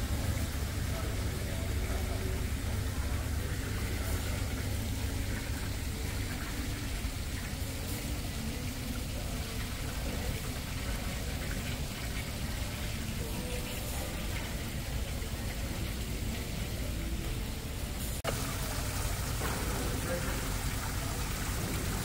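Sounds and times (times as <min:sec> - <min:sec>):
waterfall splashing over rocks: 0:00.0 - 0:22.0.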